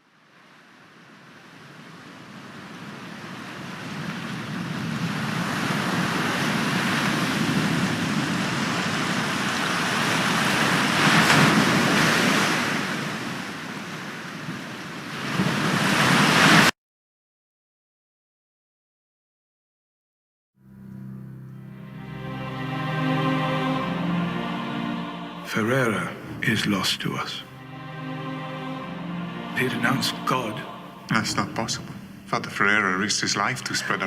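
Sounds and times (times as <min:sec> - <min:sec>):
sea waves surf: 0:00.3 - 0:16.7, 0:21.6 - 0:34.0.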